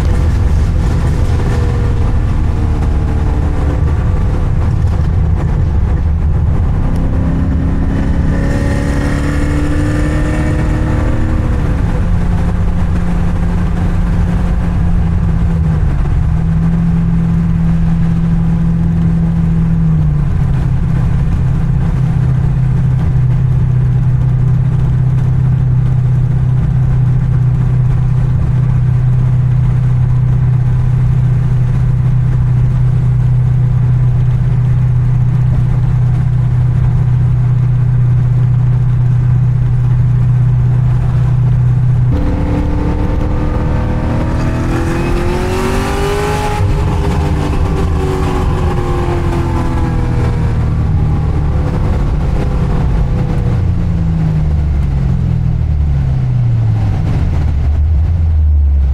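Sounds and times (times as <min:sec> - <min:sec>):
car engine drone inside cabin: 0:00.0 - 0:58.9.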